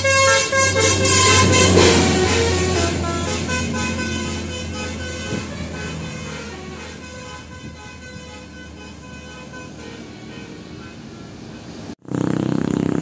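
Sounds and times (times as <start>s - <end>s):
musical air horn tune: 0.0s - 11.4s
bus engine rumble: 0.0s - 12.0s.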